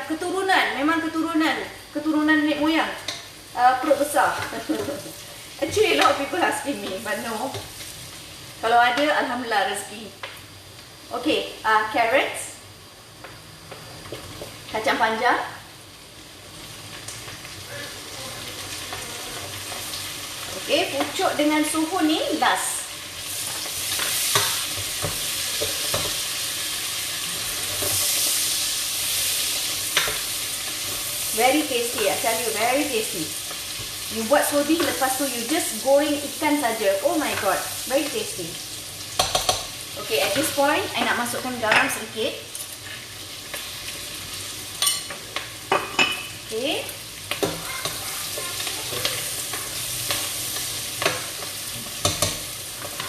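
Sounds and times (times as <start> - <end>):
food sizzling in oil: 0.0 - 53.0.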